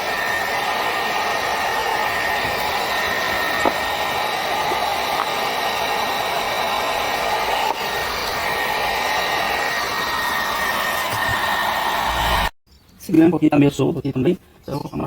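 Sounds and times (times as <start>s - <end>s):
heat gun blowing with whine: 0.0s - 12.6s.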